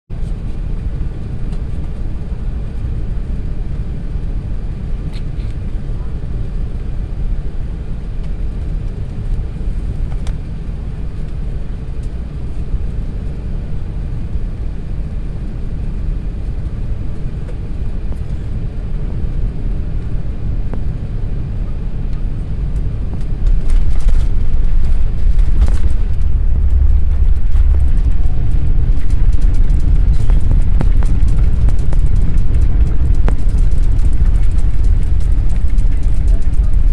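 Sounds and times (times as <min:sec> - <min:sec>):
airliner landing rumble: 0:00.1 - 0:36.9.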